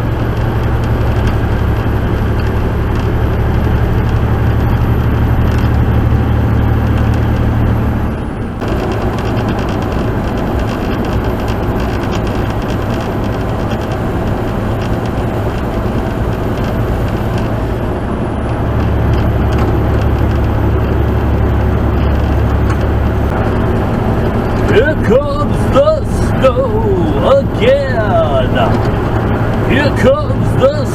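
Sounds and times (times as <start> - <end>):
truck engine and tyre drone: 0.0 - 30.9.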